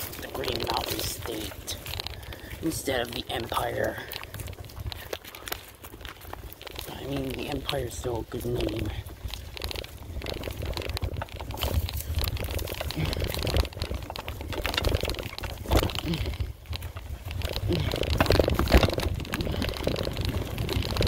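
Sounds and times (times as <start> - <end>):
bike tyres crunching and rattling: 0.0 - 21.0
low rumble on microphone: 0.0 - 21.0.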